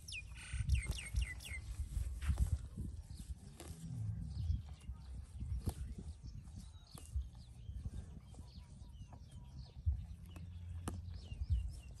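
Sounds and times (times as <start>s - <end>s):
cow chewing grass: 0.0s - 12.0s
small birds chirping: 0.0s - 12.0s.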